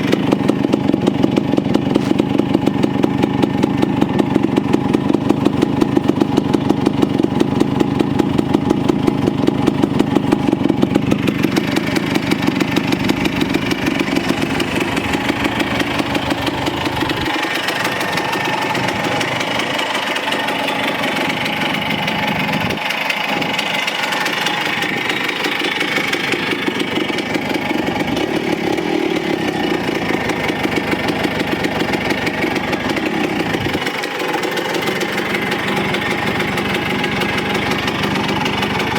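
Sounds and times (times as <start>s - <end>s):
two-stroke motorcycle engine: 0.0s - 38.9s.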